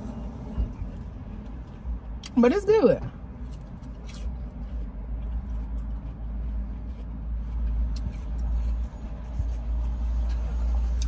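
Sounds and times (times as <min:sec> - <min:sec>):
car rumble from inside cabin: 0:00.0 - 0:11.0.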